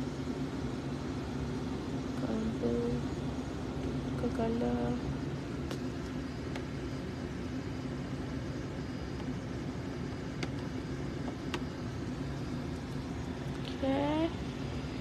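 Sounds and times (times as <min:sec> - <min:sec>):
car cabin climate control hum: 0:00.3 - 0:15.0.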